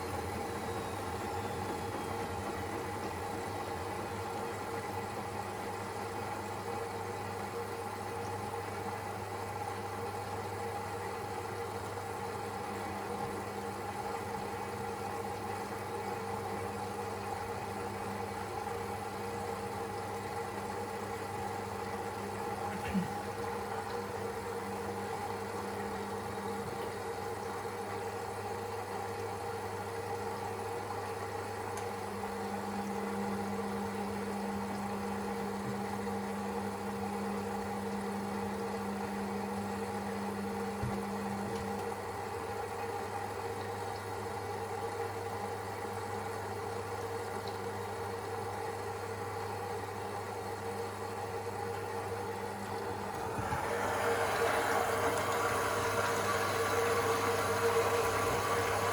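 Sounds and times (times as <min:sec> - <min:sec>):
washing machine humming: 0:00.0 - 0:58.9.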